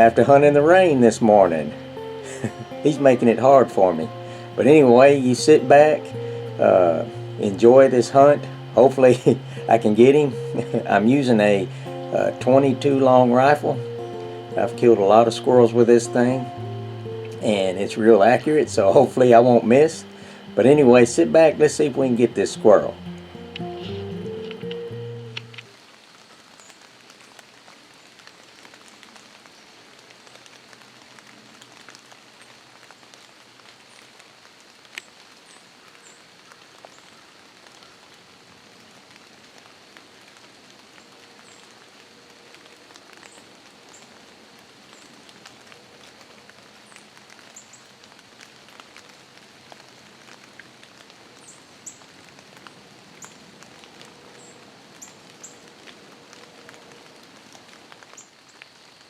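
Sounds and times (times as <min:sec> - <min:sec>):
raindrops ticking: 0:00.0 - 0:59.0
steady rain hiss: 0:00.0 - 0:59.0.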